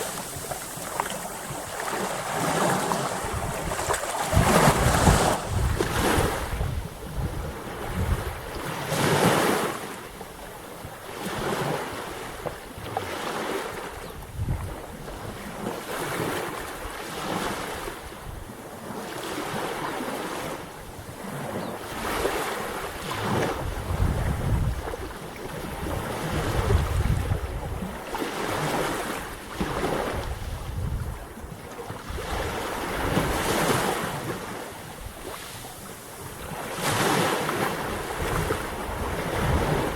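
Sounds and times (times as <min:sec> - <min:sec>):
sea waves washing in: 0:00.0 - 0:14.0, 0:18.8 - 0:39.9
wind rumbling on microphone: 0:00.0 - 0:39.9.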